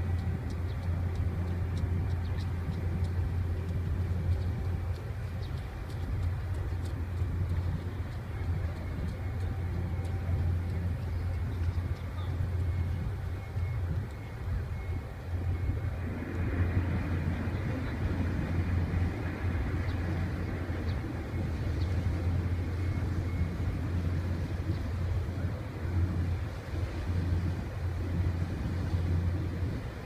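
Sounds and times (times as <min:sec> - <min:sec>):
ship engines rumbling: 0:00.0 - 0:30.0.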